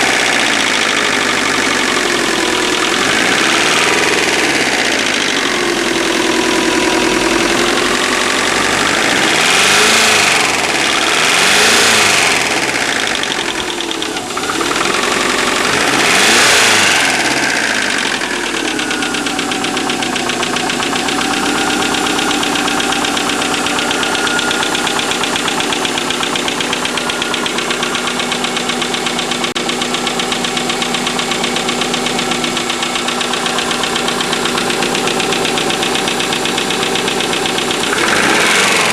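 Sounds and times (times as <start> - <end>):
car engine revving and idling: 0.0 - 38.9
engine knocking: 0.0 - 38.9.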